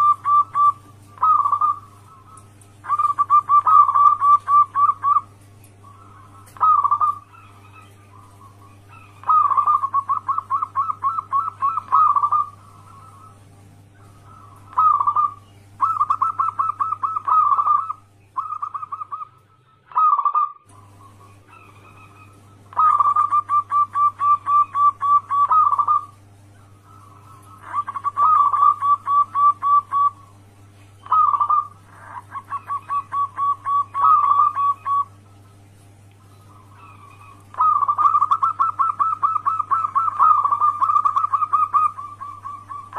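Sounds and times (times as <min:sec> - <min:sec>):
dove cooing: 0:00.0 - 0:42.9
steady low hum: 0:00.0 - 0:42.9.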